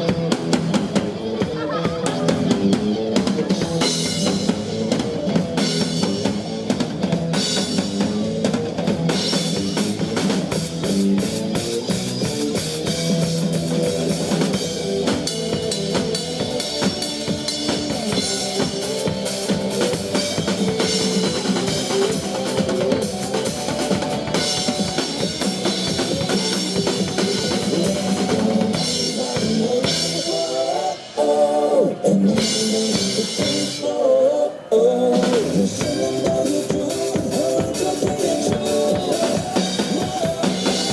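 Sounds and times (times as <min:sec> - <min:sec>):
drum kit steady beat: 0:00.0 - 0:31.2, 0:32.2 - 0:33.8, 0:35.2 - 0:40.9
pop-rock instrumental music: 0:00.0 - 0:40.9.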